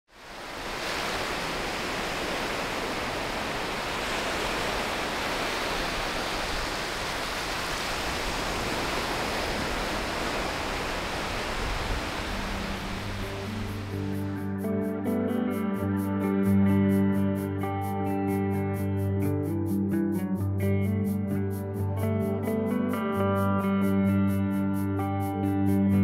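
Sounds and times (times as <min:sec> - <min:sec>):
sea surf washing onto beach: 0:00.1 - 0:26.0.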